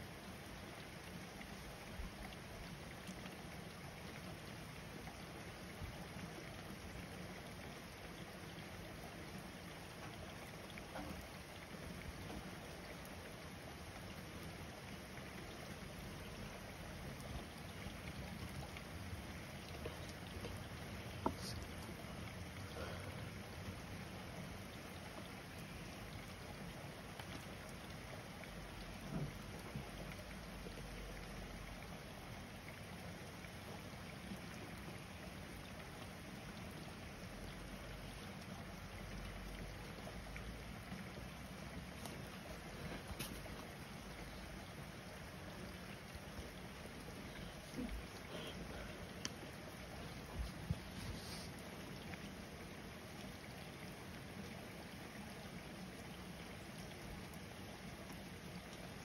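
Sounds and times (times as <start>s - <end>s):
rain falling on a street: 0.0s - 59.0s.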